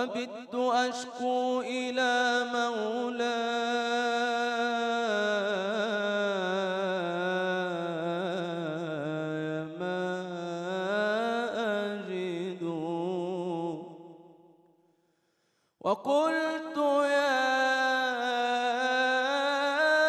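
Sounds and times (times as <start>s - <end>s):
man singing melismatic chant: 0.0s - 14.2s, 15.9s - 20.0s.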